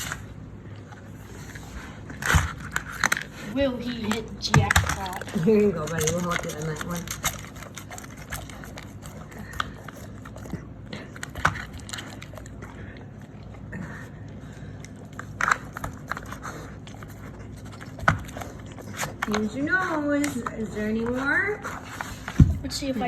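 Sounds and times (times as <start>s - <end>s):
dog biting treats: 0.0s - 14.0s, 14.6s - 23.0s.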